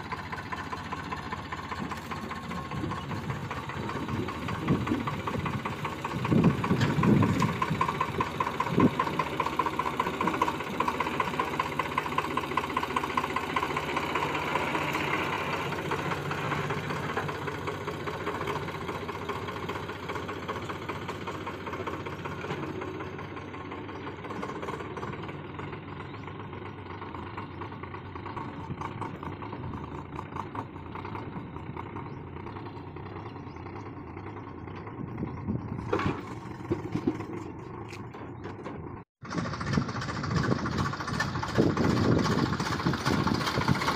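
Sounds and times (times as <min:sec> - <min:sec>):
tractor diesel engine pulling hard: 0:00.0 - 0:43.9.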